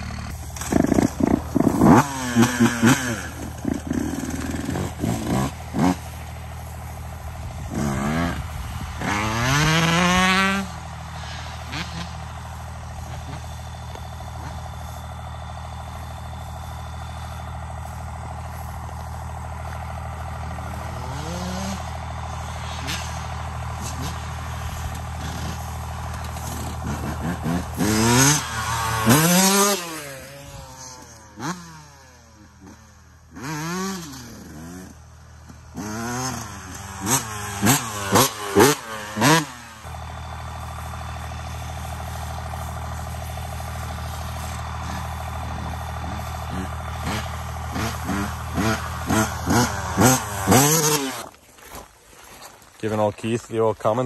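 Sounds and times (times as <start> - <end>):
diesel engine revving: 0.0 - 51.9.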